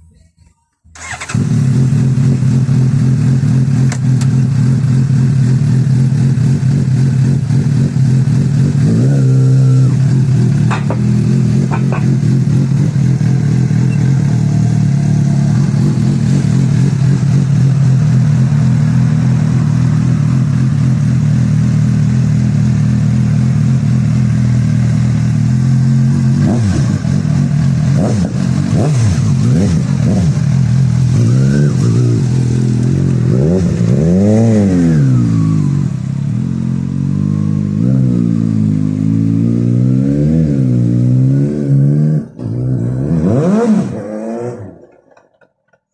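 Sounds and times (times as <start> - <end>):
motorcycle engine idling and revving: 0.9 - 45.9.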